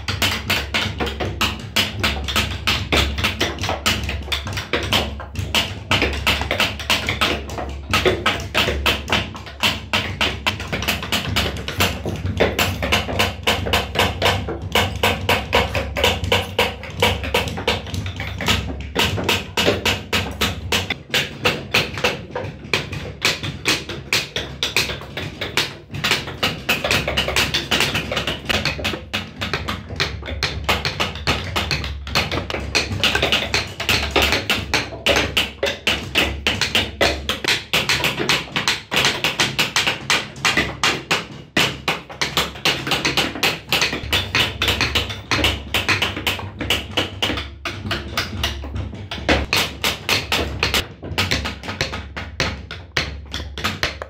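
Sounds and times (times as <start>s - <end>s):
mallet striking chisel on wood: 0.0s - 54.0s.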